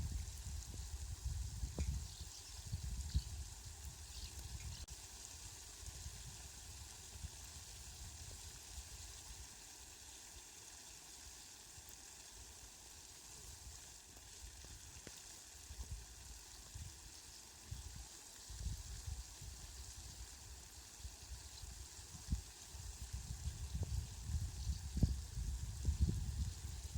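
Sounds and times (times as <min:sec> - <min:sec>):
rain hissing: 0:00.0 - 0:26.9.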